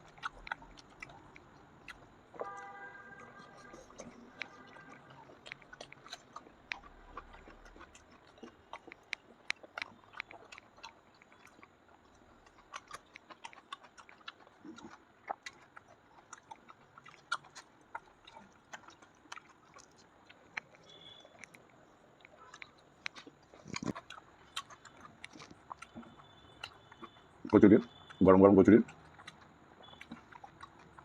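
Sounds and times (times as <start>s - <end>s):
wet chewing and mouth smacks: 0.0s - 31.0s.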